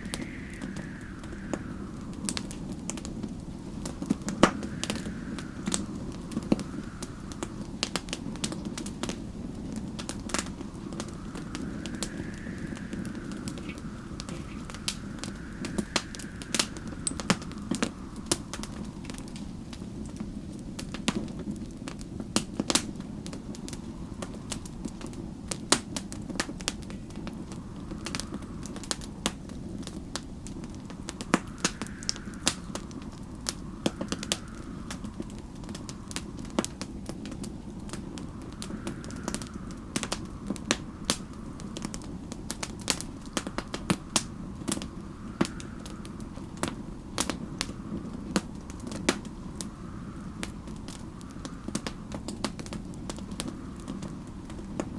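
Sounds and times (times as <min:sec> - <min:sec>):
low rumble: 0:00.0 - 0:20.4, 0:26.7 - 0:54.9
faint howling wind: 0:00.0 - 0:54.9
wood fire crackling and popping: 0:00.0 - 0:54.9.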